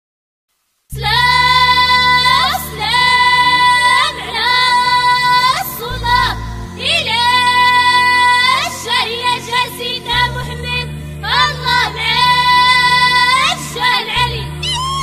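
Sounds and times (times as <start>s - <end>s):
steady low accompaniment: 0.9s - 15.0s.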